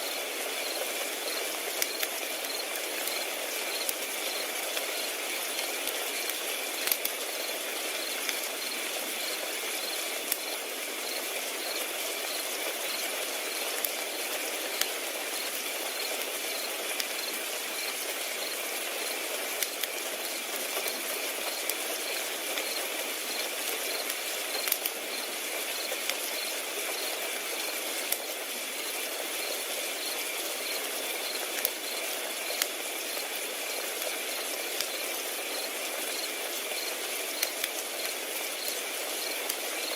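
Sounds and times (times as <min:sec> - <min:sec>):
crickets chirping: 0:00.0 - 0:05.6, 0:07.3 - 0:13.7, 0:14.6 - 0:19.2, 0:21.5 - 0:27.2, 0:28.8 - 0:33.3, 0:34.3 - 0:39.9
constant hiss: 0:00.0 - 0:39.9
fire crackling and popping: 0:00.1 - 0:39.9.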